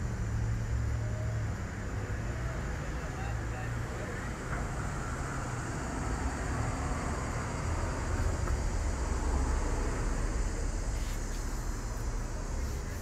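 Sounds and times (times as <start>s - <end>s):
low outdoor background rumble: 0.0s - 13.0s.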